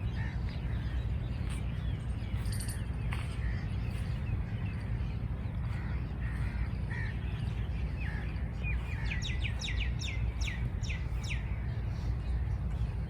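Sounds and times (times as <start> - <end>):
songbird singing: 0.0 - 13.0
steady low rumble: 0.0 - 13.0.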